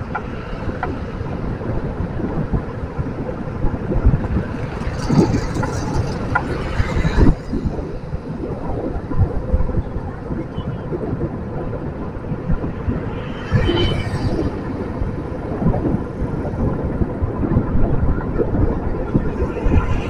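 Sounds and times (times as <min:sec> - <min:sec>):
rush of passing traffic: 0:00.0 - 0:20.0
street traffic: 0:00.0 - 0:20.0
wind buffeting microphone: 0:00.0 - 0:20.0.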